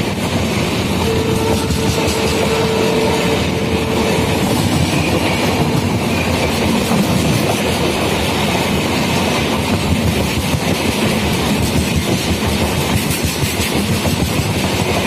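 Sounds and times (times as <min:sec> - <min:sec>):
train wheels clickety-clack: 0:00.0 - 0:15.0.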